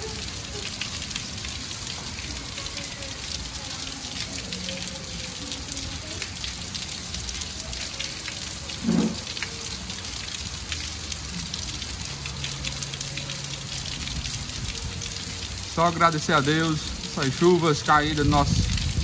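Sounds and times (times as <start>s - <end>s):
rain pattering on pavement: 0.0s - 19.0s
water pouring off roof: 0.0s - 19.0s.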